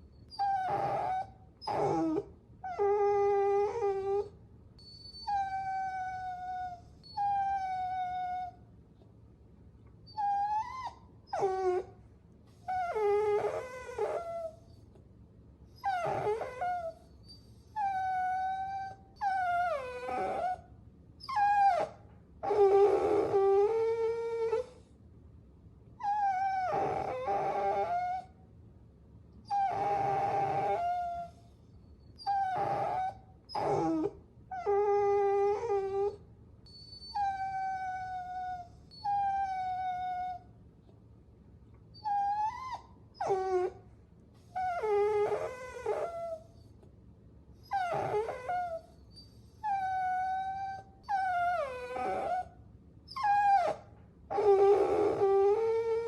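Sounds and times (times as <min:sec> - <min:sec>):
puppies whining: 0:00.3 - 0:08.6, 0:10.1 - 0:15.0, 0:15.8 - 0:20.6, 0:21.2 - 0:24.9, 0:26.0 - 0:28.3, 0:29.4 - 0:40.5, 0:41.9 - 0:43.8, 0:44.4 - 0:46.7, 0:47.6 - 0:56.0.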